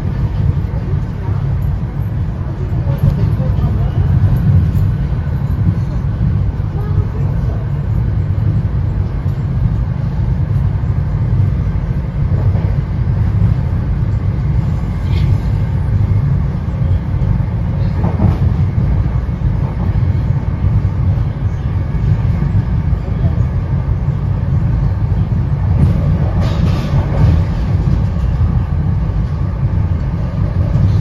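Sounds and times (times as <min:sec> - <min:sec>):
train coach rumbling: 0:00.0 - 0:31.0.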